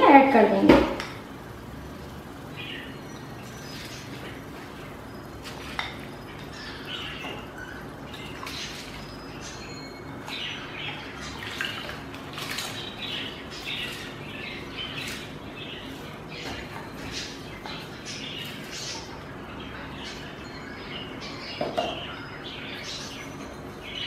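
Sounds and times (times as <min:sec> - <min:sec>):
water boiling and bubbling: 0:00.0 - 0:19.6.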